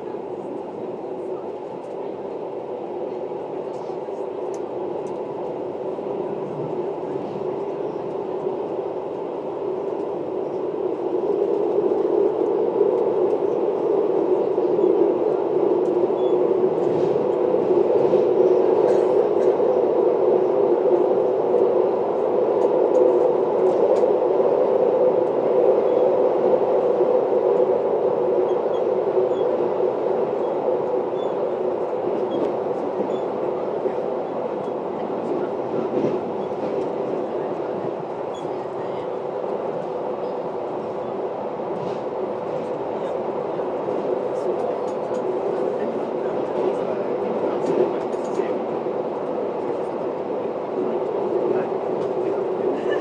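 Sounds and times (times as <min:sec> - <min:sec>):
electric train rumbling in tunnel: 0:00.0 - 0:53.0.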